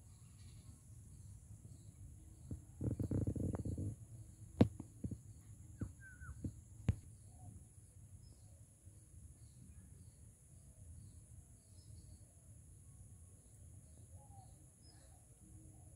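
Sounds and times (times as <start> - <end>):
bird chirp: 0.0 - 12.6, 13.4 - 15.9.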